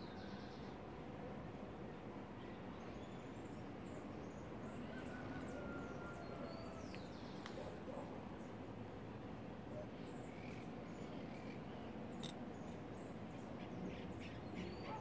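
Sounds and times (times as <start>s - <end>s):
outdoor background hiss: 0.0s - 14.6s.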